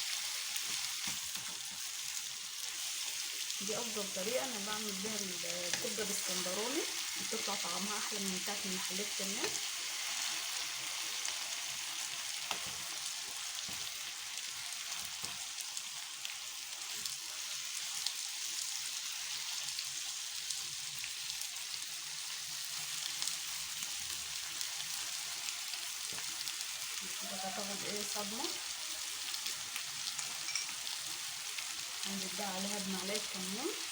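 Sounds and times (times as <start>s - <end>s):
meat and onions sizzling in pan: 0.0s - 33.9s.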